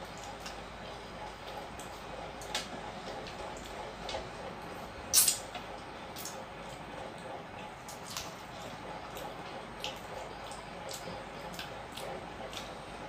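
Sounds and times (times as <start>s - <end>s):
wet chewing clicks: 0.0s - 4.3s, 5.1s - 13.0s.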